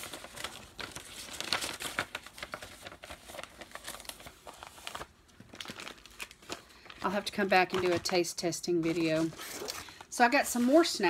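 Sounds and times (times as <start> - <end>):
paper and packaging rustling: 0.0 - 11.0.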